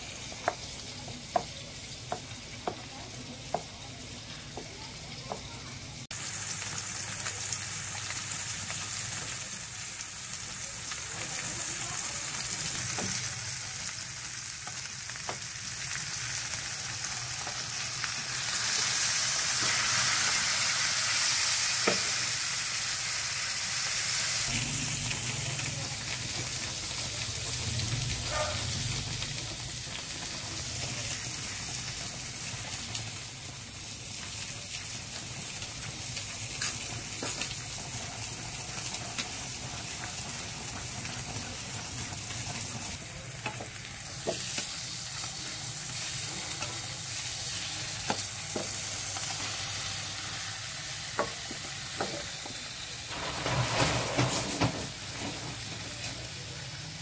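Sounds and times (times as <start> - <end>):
sizzling in a pan: 0.0 - 57.0.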